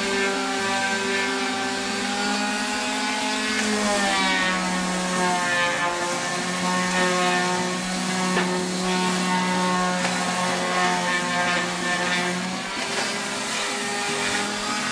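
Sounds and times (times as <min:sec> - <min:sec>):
orbital sander on wood: 0:00.0 - 0:14.9.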